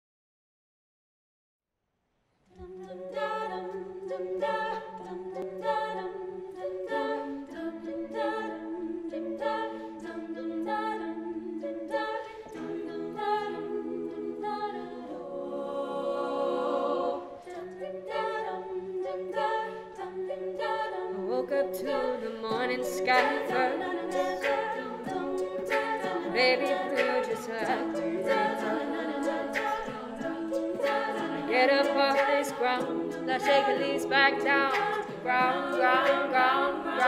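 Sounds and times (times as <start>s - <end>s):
women singing close harmony: 2.6s - 37.0s.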